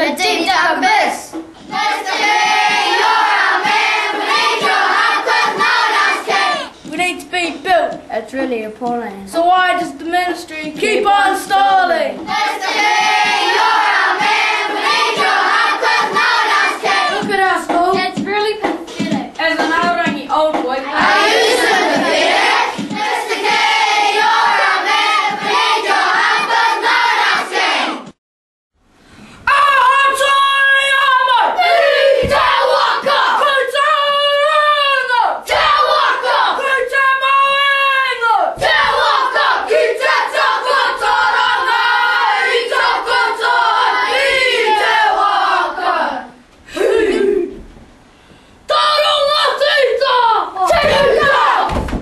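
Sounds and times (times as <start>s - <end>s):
children chanting a rap in unison: 0.0s - 7.0s, 9.7s - 28.2s, 30.7s - 46.4s, 48.7s - 51.8s.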